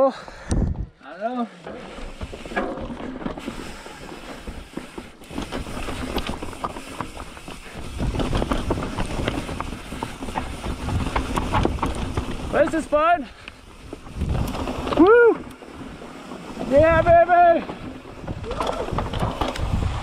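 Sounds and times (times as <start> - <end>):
mountain bike rattling on rocks: 1.6 - 20.0.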